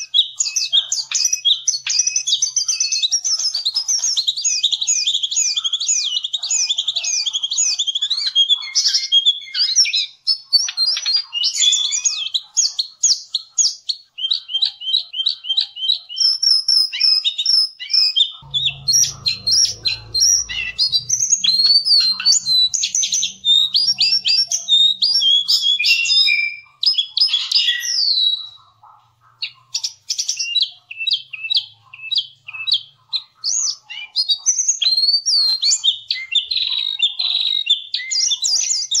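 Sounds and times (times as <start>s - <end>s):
bird singing chirps and trills: 0.0s - 39.0s.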